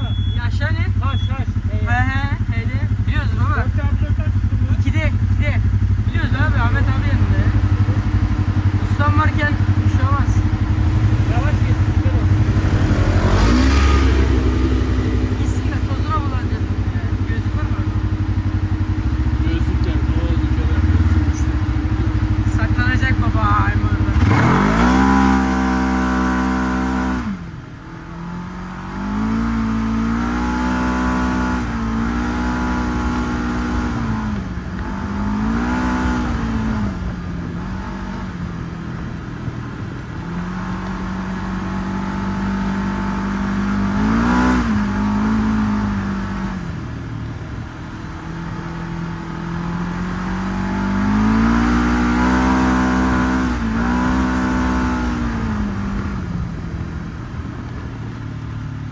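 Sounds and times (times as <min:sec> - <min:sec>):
utility vehicle engine revving: 0:00.0 - 0:58.9.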